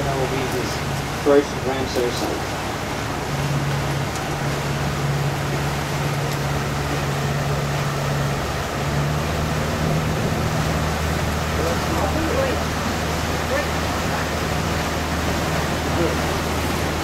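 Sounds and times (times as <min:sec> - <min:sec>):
boat engine drone: 0:00.0 - 0:17.0
water rushing: 0:00.0 - 0:17.0.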